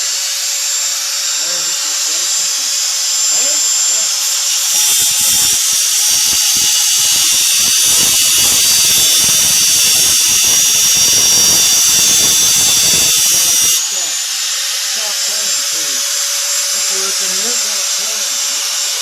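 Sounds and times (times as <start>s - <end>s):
cutting wheel grinding metal: 0.0s - 19.0s
rotary cutting tool whining: 0.0s - 19.0s.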